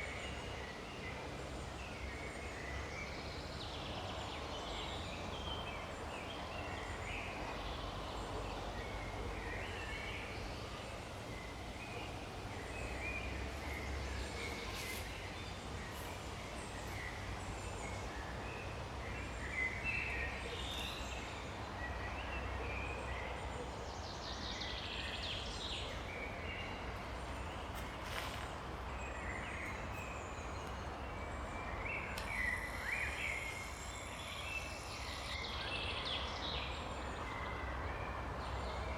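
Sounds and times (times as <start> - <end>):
forest birds singing and chirping: 0.0 - 38.9.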